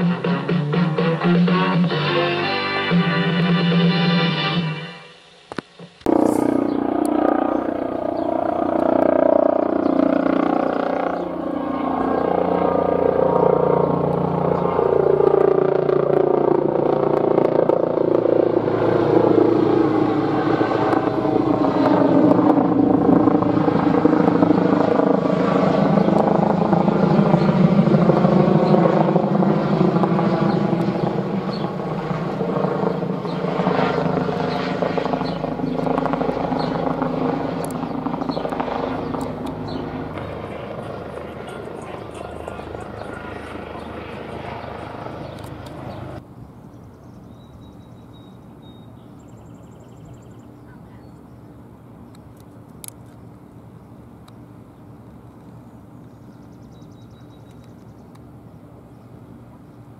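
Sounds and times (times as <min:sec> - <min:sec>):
helicopter flying over: 0:00.0 - 0:59.9.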